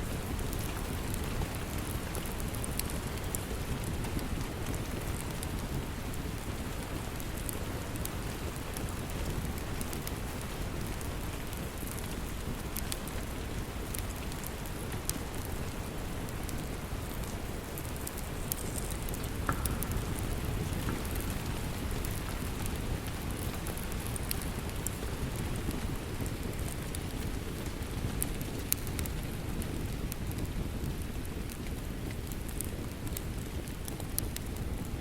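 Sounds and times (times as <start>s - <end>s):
log fire crackling: 0.0s - 35.0s
rain pattering: 0.0s - 35.0s.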